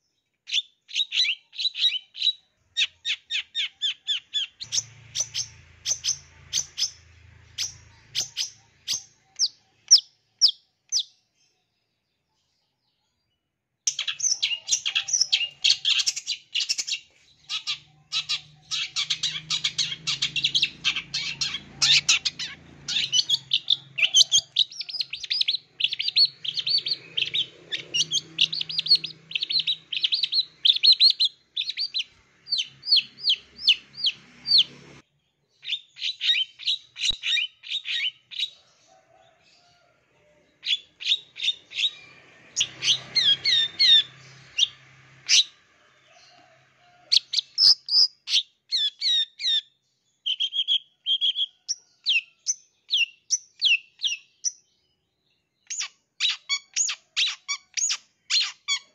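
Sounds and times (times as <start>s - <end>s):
bird singing chattering song: 0.0s - 13.2s, 13.9s - 35.0s, 35.6s - 38.7s, 40.6s - 45.6s, 47.1s - 58.9s.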